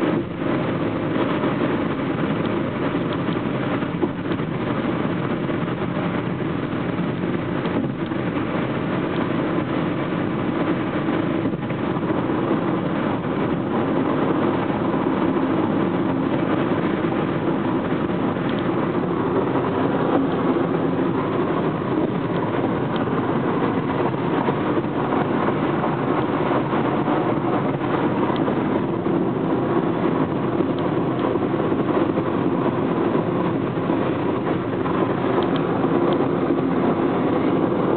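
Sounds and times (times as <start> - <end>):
car road and engine noise: 0.0 - 37.9.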